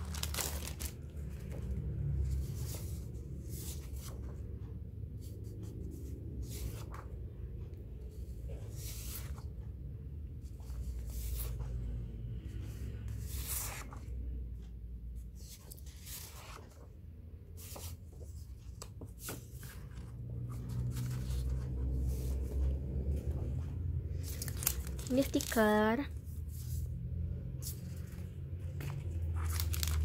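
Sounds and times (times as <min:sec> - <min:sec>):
paper pages rustling: 0:00.0 - 0:04.6, 0:05.2 - 0:07.2, 0:08.2 - 0:09.6, 0:10.4 - 0:14.2, 0:15.4 - 0:25.8, 0:27.6 - 0:30.0
low background rumble: 0:00.0 - 0:30.0.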